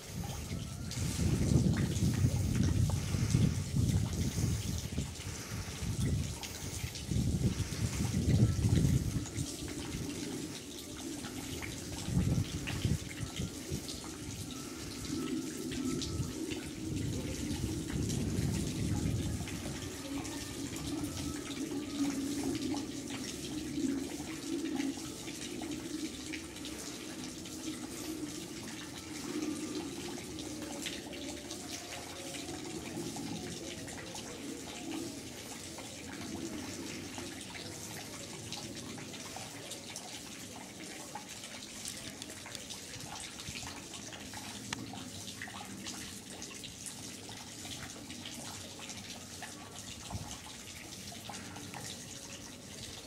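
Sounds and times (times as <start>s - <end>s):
drip-like ticks: 0.0s - 53.0s
running splashing water: 0.0s - 53.0s.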